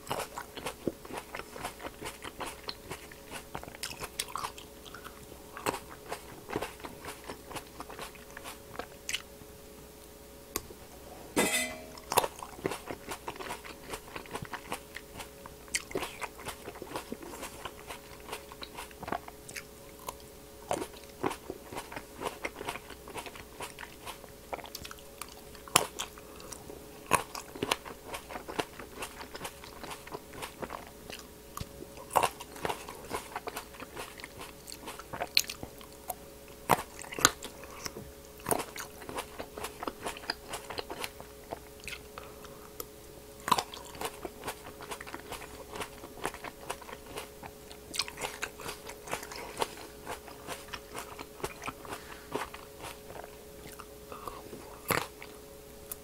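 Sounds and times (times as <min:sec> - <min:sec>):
crunching and chewing grapes: 0:00.0 - 0:09.4, 0:12.0 - 0:56.0
faint steady hum: 0:00.0 - 0:56.0.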